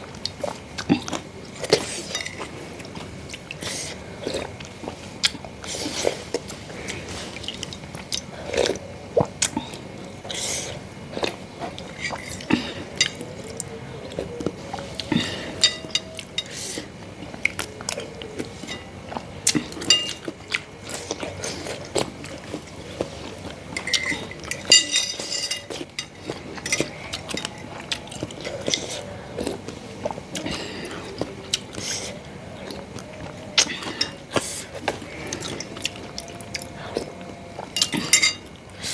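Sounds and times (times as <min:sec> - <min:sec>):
close chewing and biting: 0:00.0 - 0:38.9.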